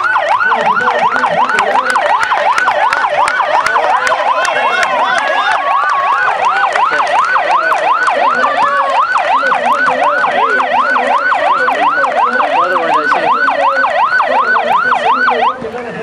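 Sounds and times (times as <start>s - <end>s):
siren yelping: 0.0s - 15.7s.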